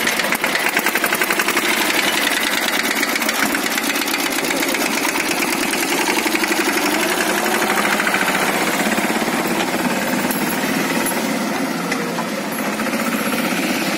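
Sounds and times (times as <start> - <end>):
tractor diesel engine knocking: 0.0 - 13.9.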